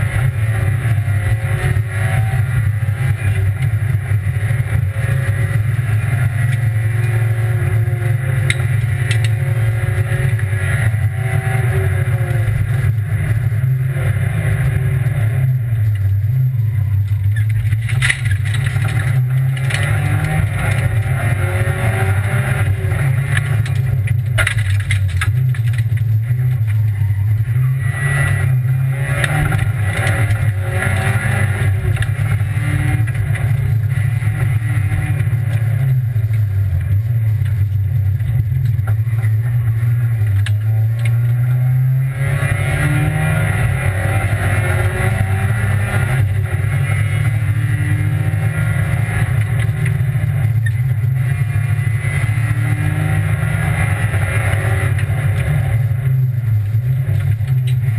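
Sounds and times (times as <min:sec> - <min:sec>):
car engine running hard: 0:00.0 - 0:57.9.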